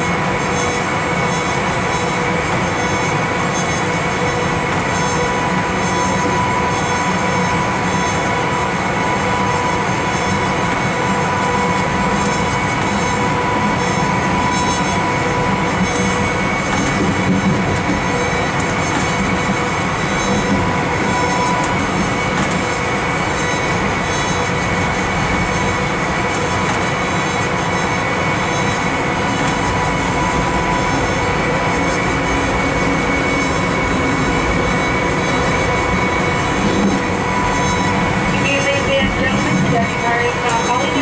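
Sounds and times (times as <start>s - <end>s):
train wheels rumbling: 0.0s - 41.0s.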